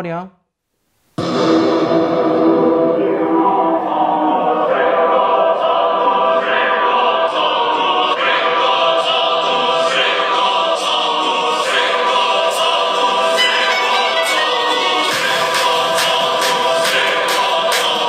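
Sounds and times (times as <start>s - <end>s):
electronic dance music with choir vocals: 1.2s - 18.0s.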